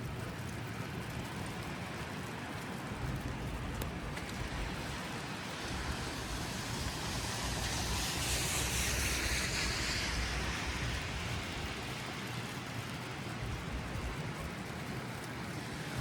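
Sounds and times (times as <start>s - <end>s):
city street traffic: 0.0s - 16.0s
car tyres hissing on wet road: 2.4s - 16.0s.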